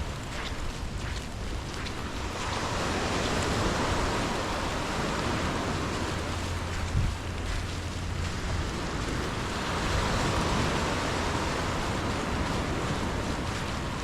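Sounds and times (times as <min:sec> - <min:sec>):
heavy rain hiss: 0:00.0 - 0:14.0
surf washing on a beach: 0:00.0 - 0:14.0
wind rumble on microphone: 0:00.0 - 0:14.0.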